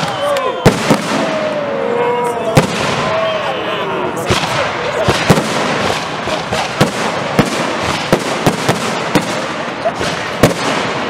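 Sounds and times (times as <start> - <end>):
dense firework crackle: 0.0 - 1.8, 2.5 - 3.6, 4.2 - 11.0.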